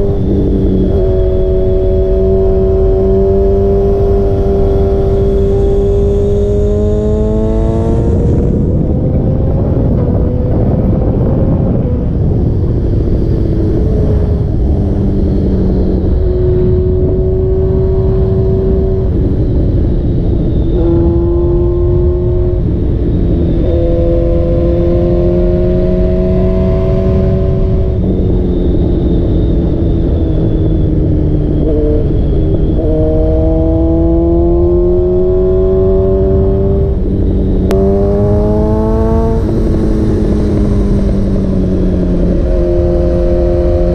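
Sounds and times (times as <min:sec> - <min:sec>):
motorcycle engine revving: 0:00.0 - 0:43.9
wind on microphone: 0:00.0 - 0:43.9.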